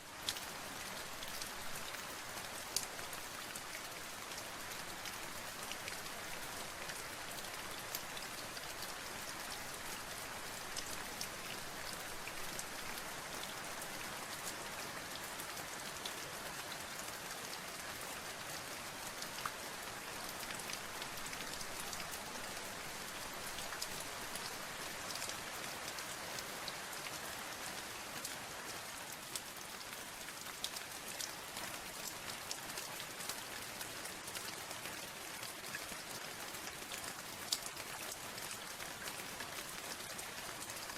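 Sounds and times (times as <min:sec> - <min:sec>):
steady rain falling: 0:00.0 - 0:40.9
raindrops ticking on a surface: 0:00.1 - 0:40.9.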